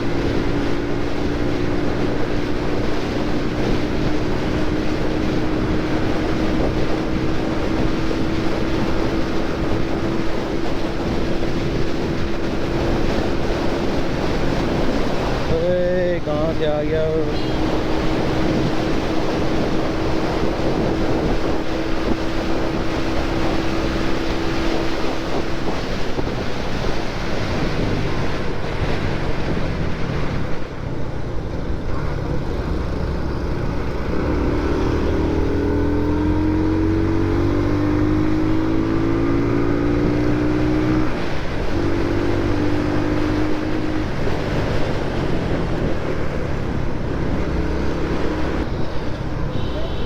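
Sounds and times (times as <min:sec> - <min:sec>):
motorcycle engine: 0:00.0 - 0:50.0
wind noise on microphone: 0:00.0 - 0:50.0.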